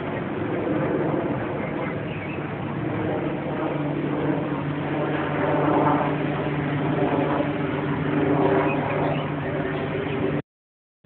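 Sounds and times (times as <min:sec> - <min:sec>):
engine running steadily: 0:00.0 - 0:10.4.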